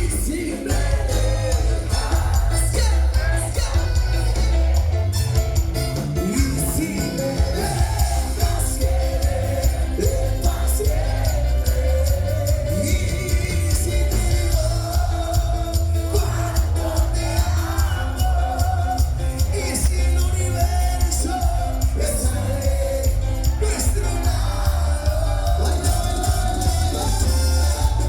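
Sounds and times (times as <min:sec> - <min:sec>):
live band music with heavy bass: 0:00.0 - 0:28.0.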